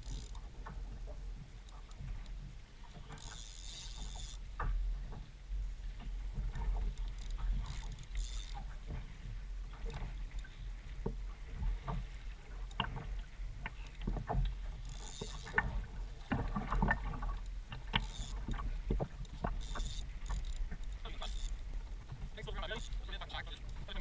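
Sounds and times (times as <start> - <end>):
knocks and clicks on hull: 0.0 - 24.0
water splashing and lapping: 0.0 - 24.0.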